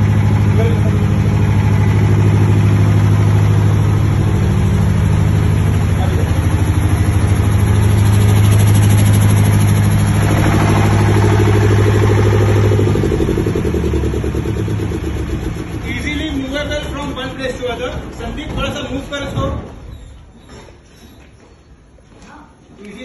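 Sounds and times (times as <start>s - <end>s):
diesel generator drone: 0.0s - 18.6s.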